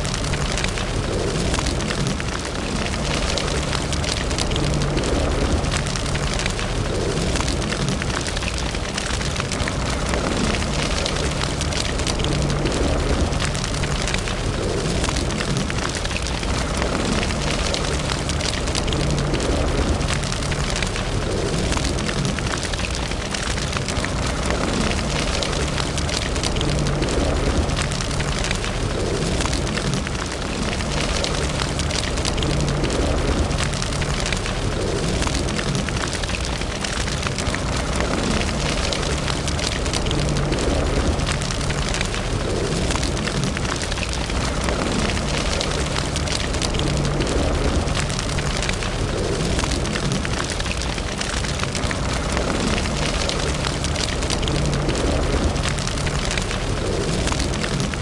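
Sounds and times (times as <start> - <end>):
fire crackling and popping: 0.0 - 58.0
low rush of flame: 0.0 - 58.0.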